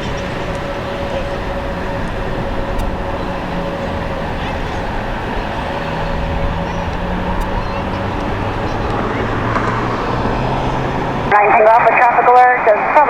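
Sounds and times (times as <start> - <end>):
jet airliner engines: 0.0 - 13.0.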